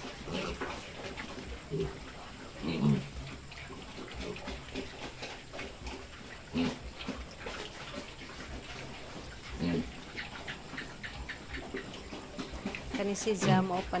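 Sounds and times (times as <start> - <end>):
piglets munching and slurping: 0.0 - 14.0.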